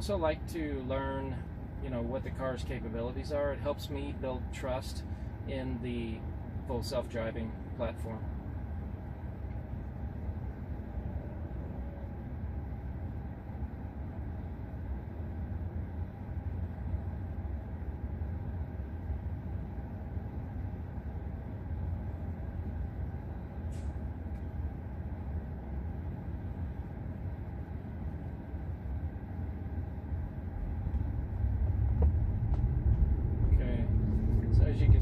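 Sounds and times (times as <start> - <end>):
road and tyre rumble in car: 0.0 - 35.0.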